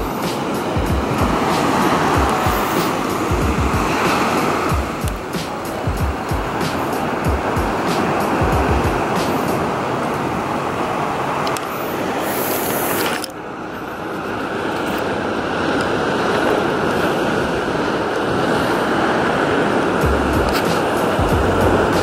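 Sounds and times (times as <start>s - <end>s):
ocean surf rushing: 0.0s - 22.0s.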